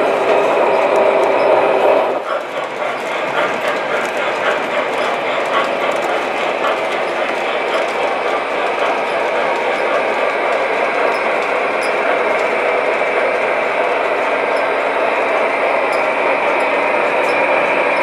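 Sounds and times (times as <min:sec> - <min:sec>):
model train wheels rumbling on rail: 0:00.0 - 0:18.0.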